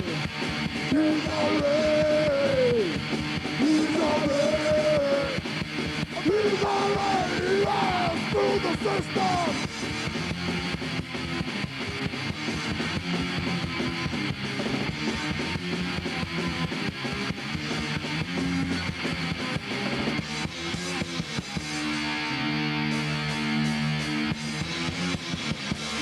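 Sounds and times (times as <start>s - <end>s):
punk rock band playing: 0.0s - 26.0s.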